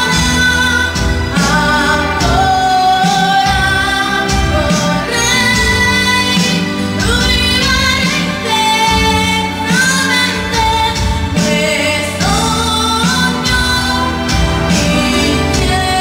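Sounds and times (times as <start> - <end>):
backing track: 0.0 - 16.0
boy singing into microphone: 0.0 - 16.0.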